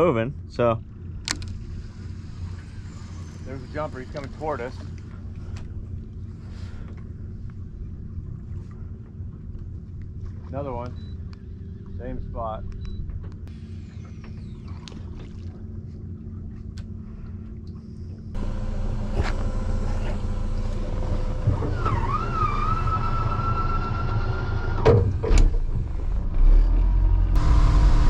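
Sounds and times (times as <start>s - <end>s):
outboard motor rumbling: 0.0s - 28.0s.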